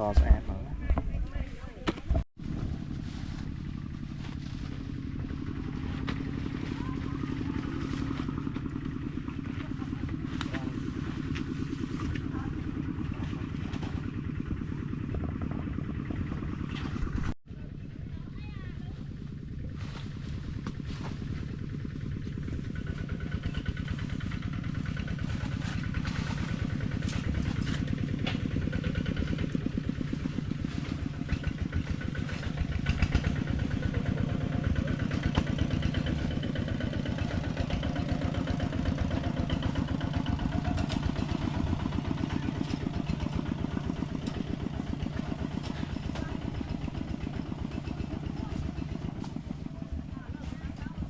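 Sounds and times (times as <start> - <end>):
small engine puttering: 2.4 - 51.0.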